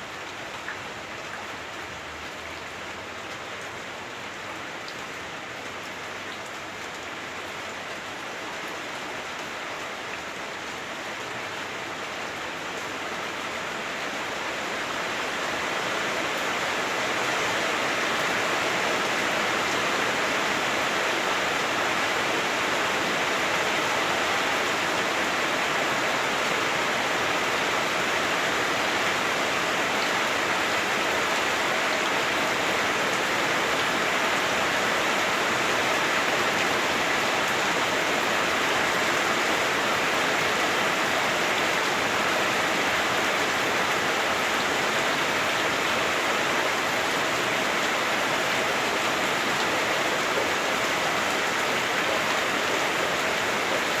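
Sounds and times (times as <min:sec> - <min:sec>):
heavy rain drumming on a roof: 0:00.0 - 0:54.0.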